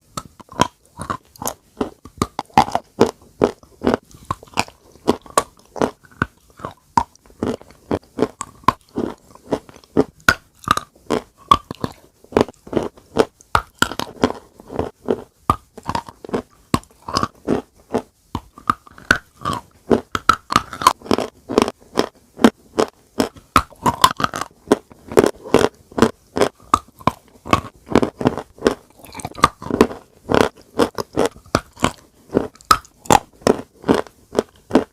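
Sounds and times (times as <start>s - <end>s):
chalk crunching while chewing: 0.1s - 34.9s.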